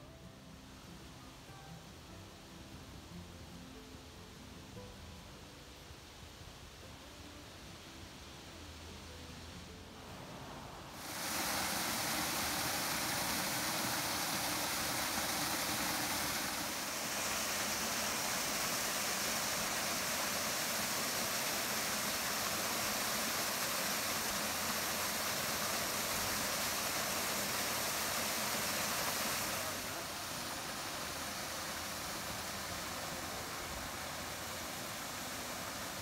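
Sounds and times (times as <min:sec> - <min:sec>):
waterfall rushing into pool: 0:07.2 - 0:36.0.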